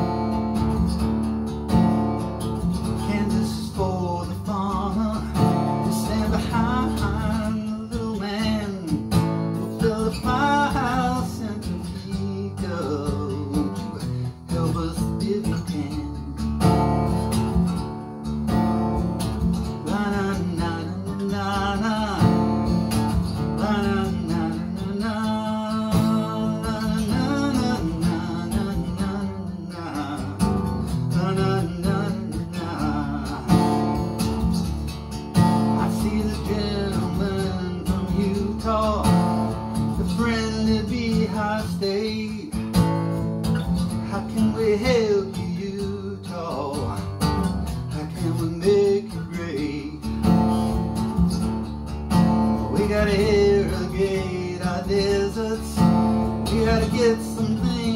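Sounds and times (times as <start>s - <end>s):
man singing: 0.0s - 0.8s, 2.6s - 17.3s, 18.9s - 51.0s, 52.1s - 57.9s
acoustic guitar strumming: 0.0s - 57.9s.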